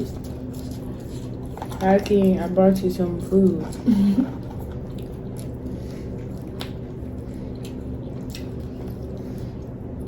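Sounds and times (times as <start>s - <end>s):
food squishing and clicks: 0.0s - 10.0s
steady low background hum: 0.0s - 10.0s.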